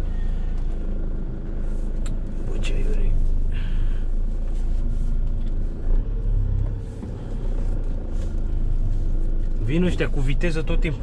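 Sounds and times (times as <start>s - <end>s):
van engine and tyres rumbling: 0.0s - 11.0s.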